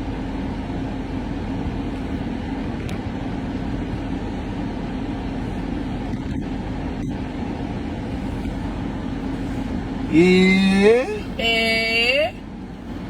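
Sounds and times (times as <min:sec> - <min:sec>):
vehicle running hum and rumble: 0:00.0 - 0:13.0.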